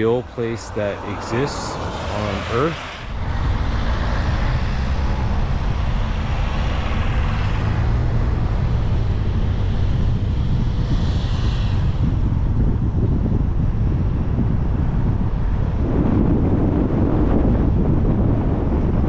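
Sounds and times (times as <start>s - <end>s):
car tyres and engine rumble: 0.0s - 19.0s
wind rush: 0.0s - 19.0s.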